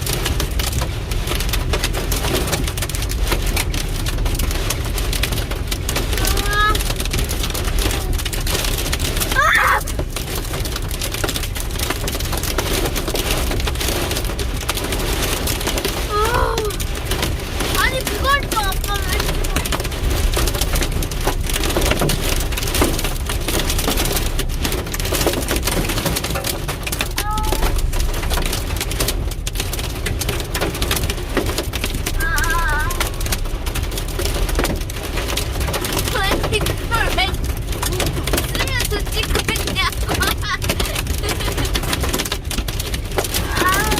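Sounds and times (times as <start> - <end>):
hail and rain pelting: 0.0 - 43.9.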